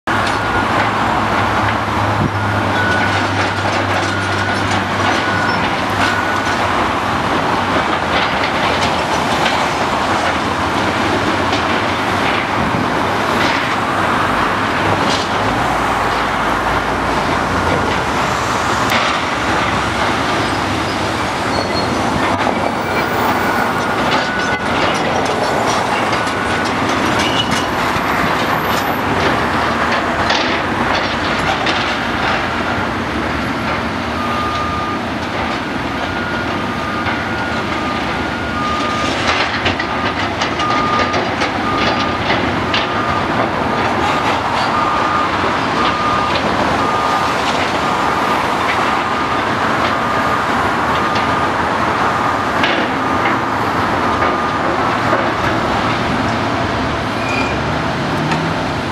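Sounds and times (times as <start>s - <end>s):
heavy diesel engine running: 0.1s - 58.9s.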